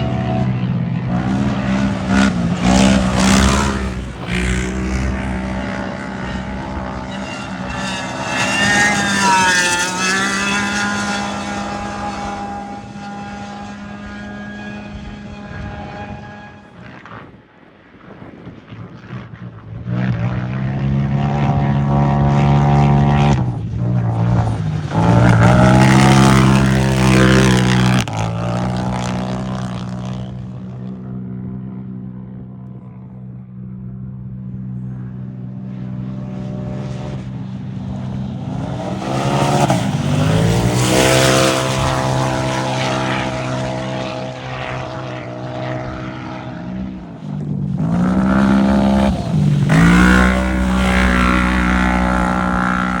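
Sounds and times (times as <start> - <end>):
racing vehicles passing at speed: 0.0 - 17.4, 19.0 - 53.0.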